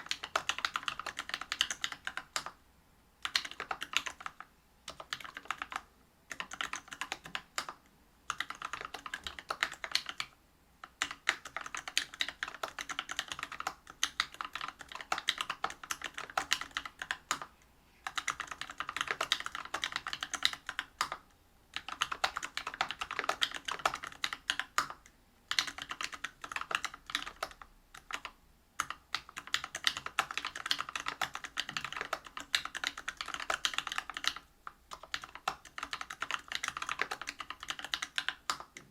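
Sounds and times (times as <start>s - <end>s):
mechanical keyboard typing: 0.0s - 2.6s, 3.2s - 38.9s.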